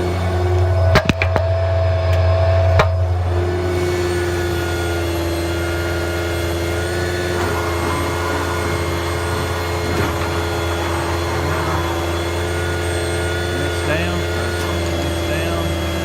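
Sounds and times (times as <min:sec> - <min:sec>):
hydraulic pump whine: 0:00.0 - 0:16.0
truck engine droning: 0:00.0 - 0:16.0
rough mechanical rattle: 0:02.8 - 0:16.0.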